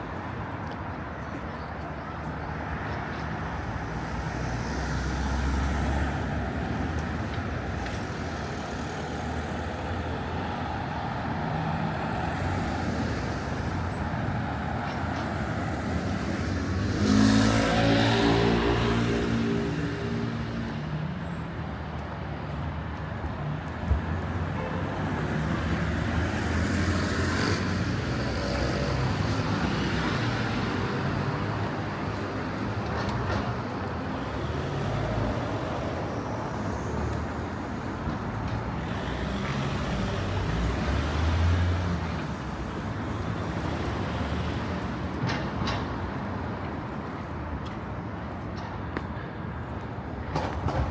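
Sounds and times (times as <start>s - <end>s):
tyre and street noise: 0.0s - 50.9s
vehicle engines passing: 0.0s - 50.9s.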